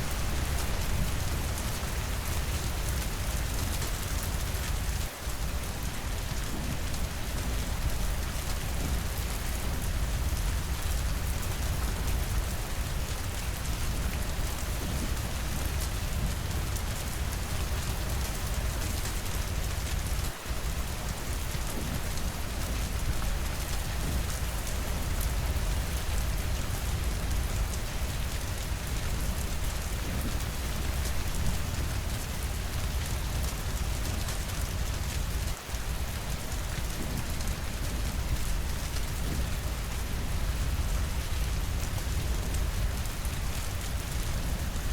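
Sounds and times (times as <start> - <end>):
heavy rain on windows: 0.0 - 44.9.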